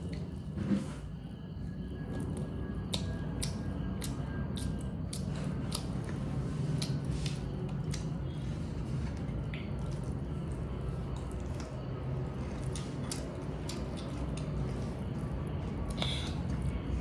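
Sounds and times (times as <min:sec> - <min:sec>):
steady low hum: 0:00.0 - 0:17.0
person chewing: 0:02.0 - 0:17.0.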